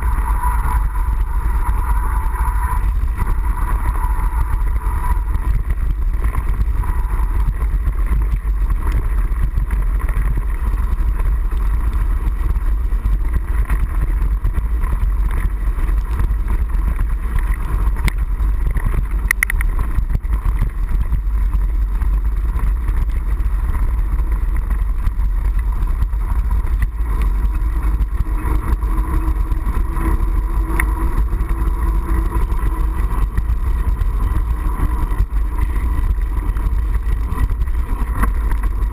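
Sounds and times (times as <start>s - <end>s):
wind and ride vibration rumble: 0.0s - 38.9s.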